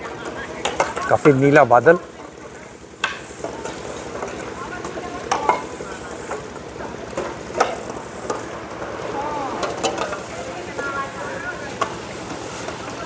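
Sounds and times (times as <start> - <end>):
faint distant voices: 0.0 - 13.0.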